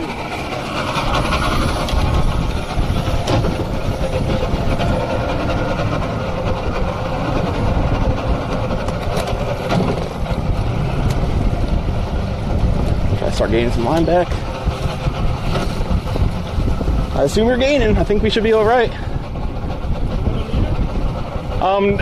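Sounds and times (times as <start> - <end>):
outboard motor running: 0.0 - 22.0
rush of wind and water: 0.0 - 22.0.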